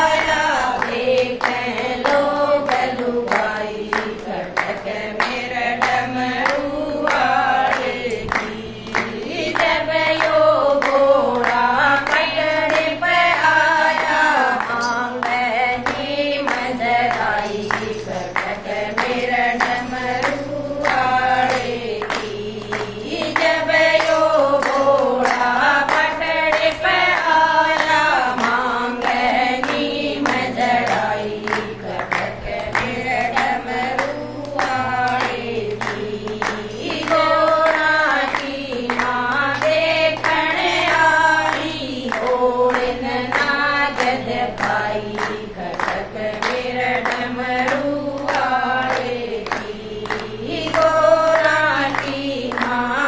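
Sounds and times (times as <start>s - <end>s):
hands clapping in rhythm: 0.0s - 53.0s
women singing devotional song: 0.0s - 53.0s.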